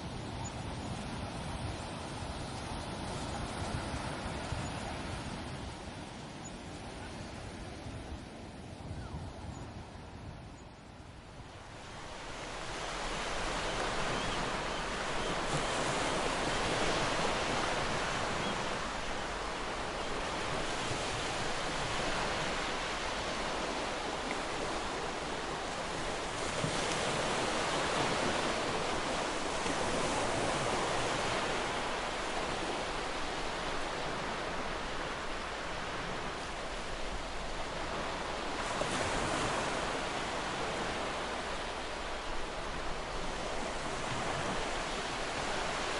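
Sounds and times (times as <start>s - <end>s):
ocean waves breaking on beach: 0.0s - 10.3s, 11.0s - 45.9s.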